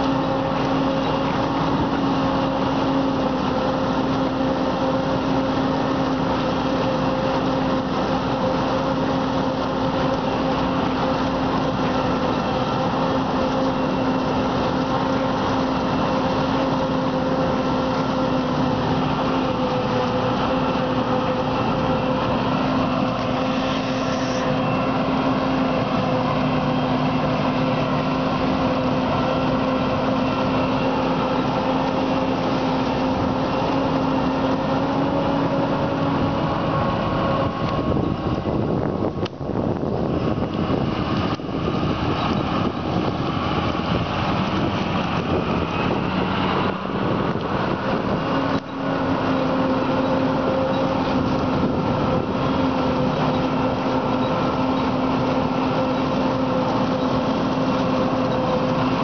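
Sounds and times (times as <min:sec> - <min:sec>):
harvester machinery droning: 0:00.0 - 0:59.0.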